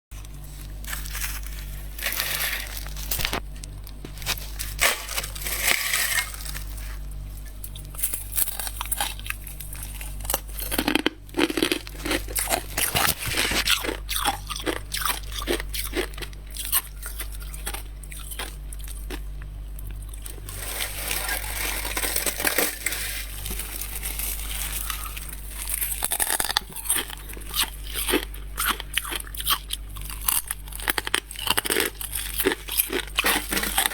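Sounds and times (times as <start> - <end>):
steady low hum: 0.1 - 33.9
frost crunching being eaten: 0.2 - 33.9.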